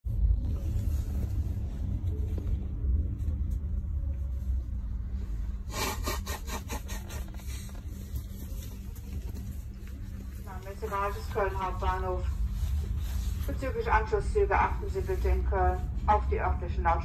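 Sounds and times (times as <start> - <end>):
constant hum: 0.0 - 17.0
train rumble inside carriage: 0.0 - 17.0.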